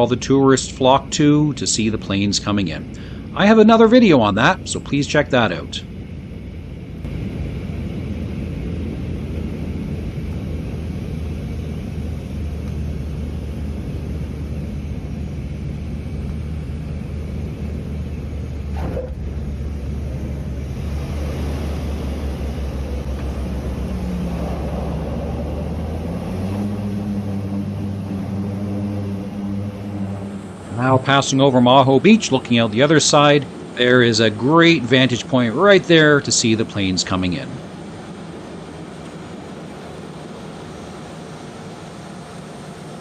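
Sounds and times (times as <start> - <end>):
propeller aircraft cabin drone: 0.0 - 43.0.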